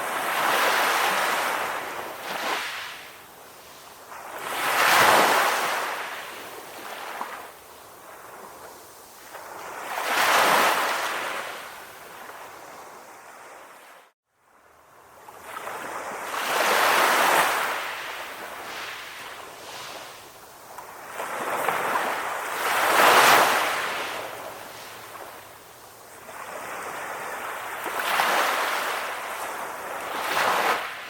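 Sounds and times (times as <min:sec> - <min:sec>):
ocean waves breaking: 0:00.0 - 0:13.9, 0:15.4 - 0:31.0.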